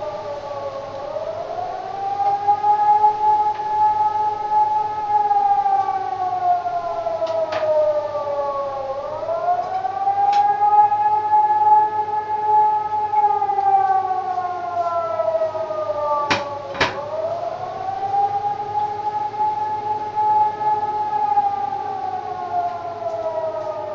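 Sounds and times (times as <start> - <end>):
rising and falling siren: 0.0 - 23.9.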